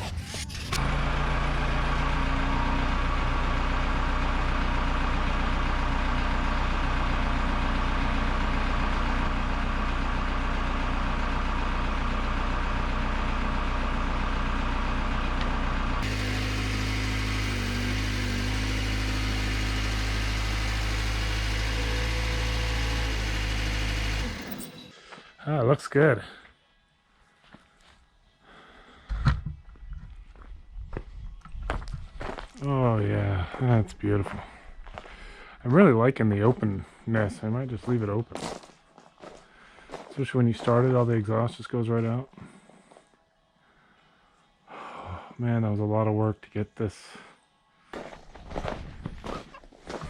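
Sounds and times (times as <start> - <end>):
backhoe engine running: 0.0 - 25.3, 28.5 - 41.3, 47.9 - 50.0.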